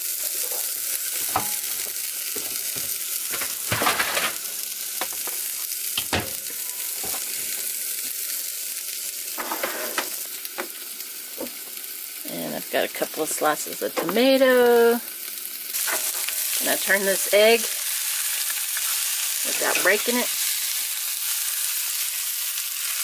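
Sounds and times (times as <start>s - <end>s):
food sizzling in a skillet: 0.0s - 23.0s.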